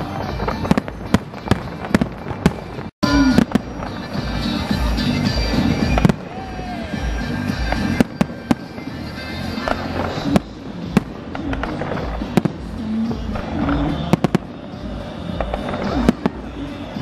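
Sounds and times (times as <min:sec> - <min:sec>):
fireworks bursting in bangs: 0:00.0 - 0:17.0
fireworks crackle: 0:00.0 - 0:17.0
music: 0:00.0 - 0:17.0.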